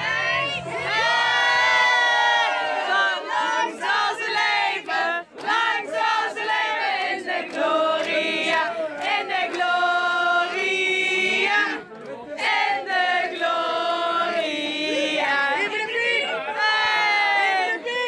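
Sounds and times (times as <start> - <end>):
group of people singing: 0.0 - 18.0.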